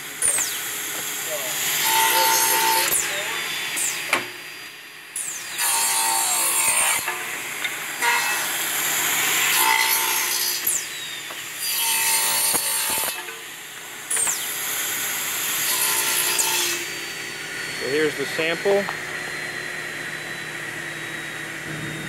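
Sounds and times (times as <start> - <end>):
circular saw cutting wood: 0.0 - 22.0.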